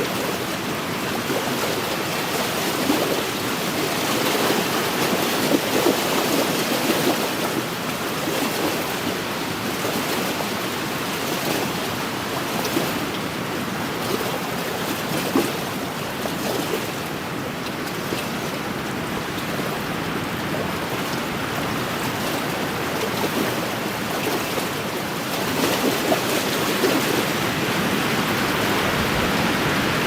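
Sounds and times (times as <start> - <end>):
waves lapping against shore: 0.0 - 30.0.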